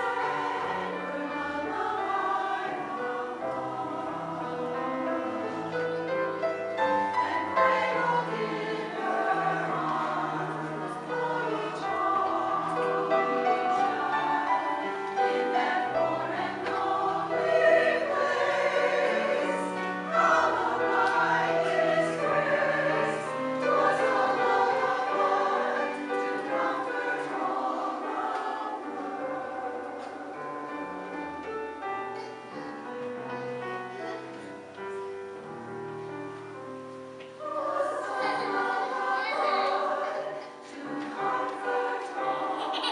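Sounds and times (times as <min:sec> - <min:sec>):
choir singing: 0:00.0 - 0:35.6, 0:37.1 - 0:42.9.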